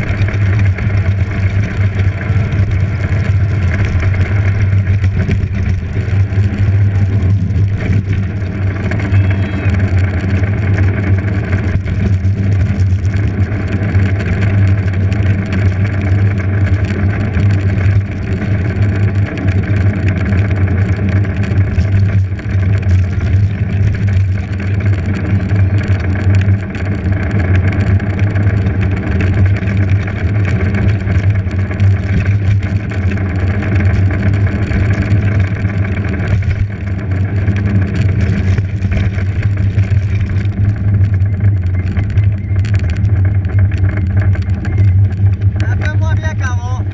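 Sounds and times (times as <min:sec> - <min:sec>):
race vehicle engine drone: 0:00.0 - 0:46.9
road and rattle noise: 0:00.0 - 0:46.9.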